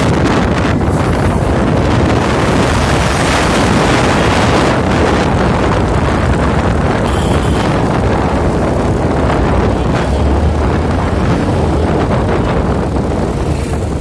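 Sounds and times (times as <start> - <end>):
vehicle road noise: 0.0 - 14.0
wind buffeting microphone: 0.0 - 14.0.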